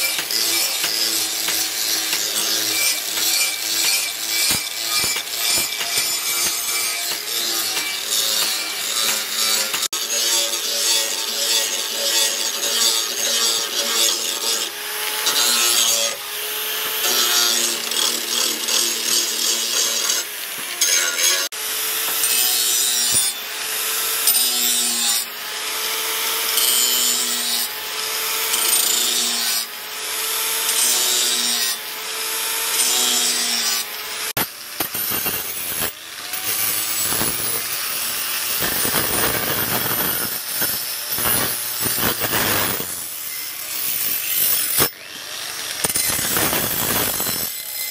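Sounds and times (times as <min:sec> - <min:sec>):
angle grinder grinding steel: 0:00.0 - 0:47.9.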